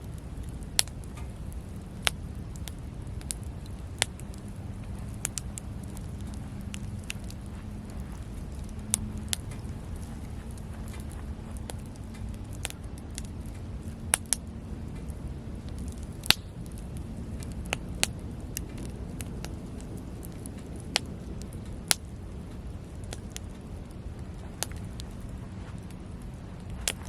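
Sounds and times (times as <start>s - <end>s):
campfire crackling and popping: 0.0s - 27.0s
low steady rumble: 0.0s - 27.0s.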